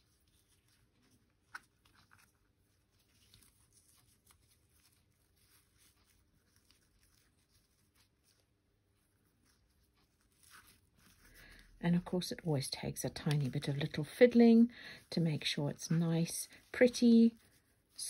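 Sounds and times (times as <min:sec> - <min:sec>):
ribbon rustling: 0:00.0 - 0:18.0.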